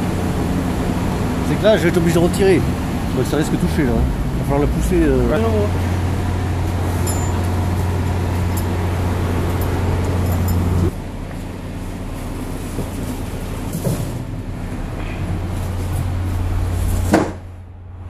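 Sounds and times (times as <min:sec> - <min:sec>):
large vehicle engine humming: 0:00.0 - 0:18.0.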